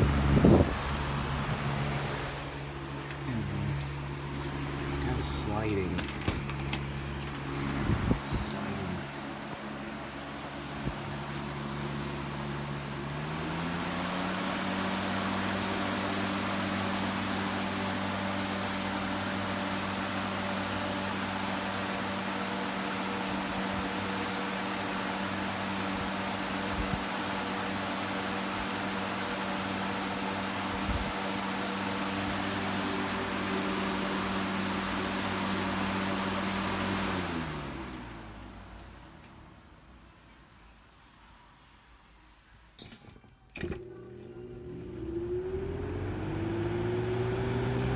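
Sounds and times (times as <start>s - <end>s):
box fan running: 0.0s - 40.2s, 43.6s - 47.9s.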